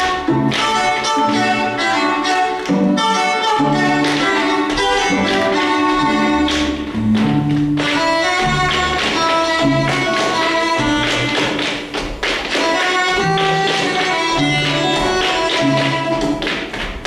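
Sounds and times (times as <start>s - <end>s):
string quartet music: 0.0s - 17.0s
tap shoes striking stage floor: 0.0s - 17.0s.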